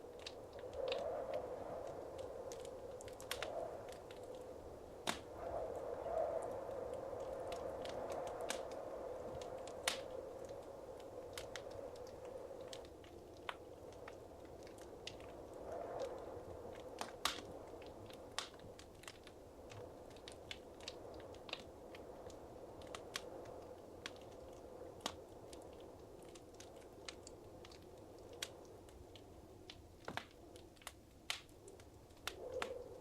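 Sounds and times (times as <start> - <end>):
fire pops and snaps: 0.0 - 33.0
soft hiss of burning: 0.0 - 33.0.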